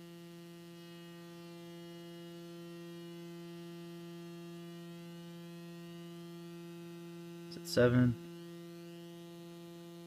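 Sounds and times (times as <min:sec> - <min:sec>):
buzzy synthesizer sawtooth tone: 0:00.0 - 0:10.0.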